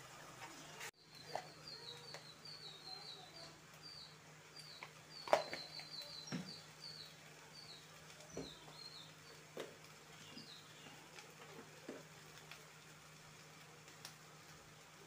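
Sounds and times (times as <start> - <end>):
small birds chirping: 0.4 - 14.6.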